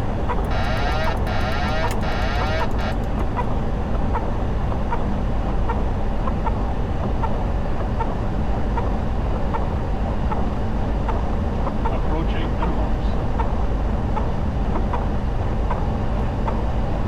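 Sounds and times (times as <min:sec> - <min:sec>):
rumble and hiss of airflow: 0:00.0 - 0:17.0.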